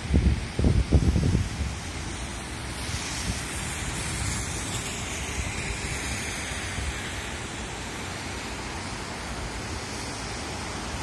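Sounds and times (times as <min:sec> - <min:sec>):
traffic rushing on wet streets: 0:00.0 - 0:11.0
tyres hissing on wet pavement: 0:00.0 - 0:11.0.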